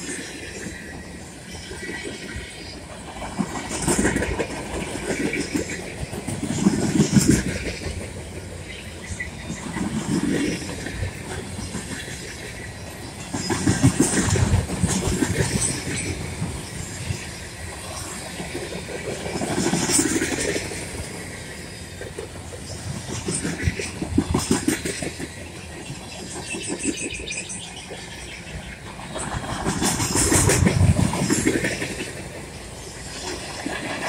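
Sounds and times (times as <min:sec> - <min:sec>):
train wheels clattering over rails: 0:00.0 - 0:34.0.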